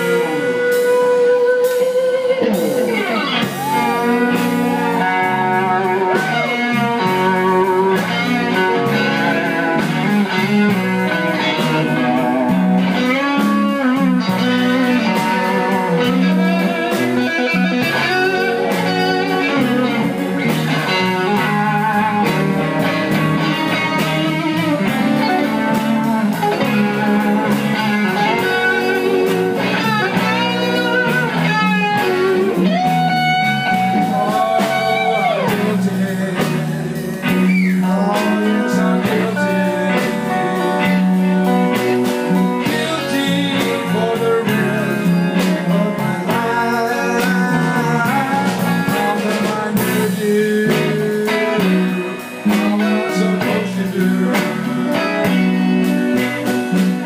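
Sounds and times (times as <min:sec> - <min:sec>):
electric guitar solo: 0:00.0 - 0:57.0
live blues band playing: 0:00.0 - 0:57.0.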